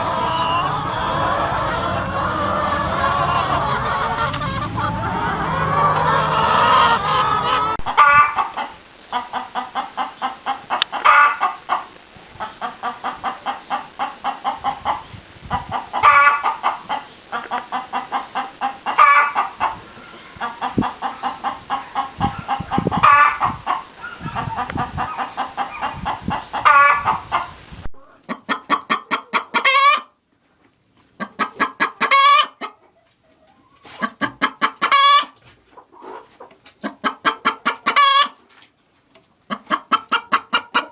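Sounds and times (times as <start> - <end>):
hens clucking: 0.0 - 11.8, 12.4 - 30.2, 31.0 - 40.9.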